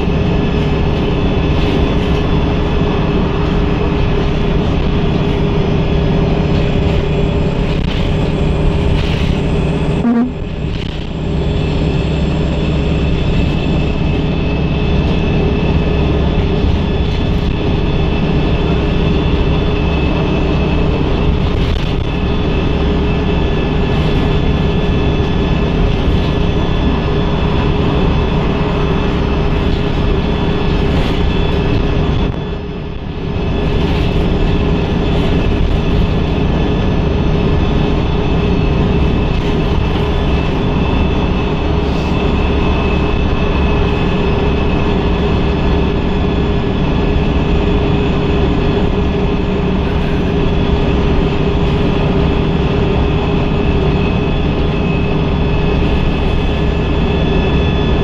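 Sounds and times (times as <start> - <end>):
bus diesel engine rumble: 0.0 - 58.0
high whine: 0.0 - 58.0
road noise: 0.0 - 58.0.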